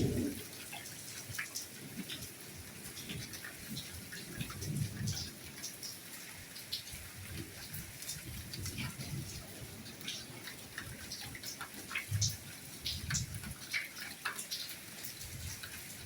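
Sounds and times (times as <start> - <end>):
soft steady rainfall: 0.0 - 16.0.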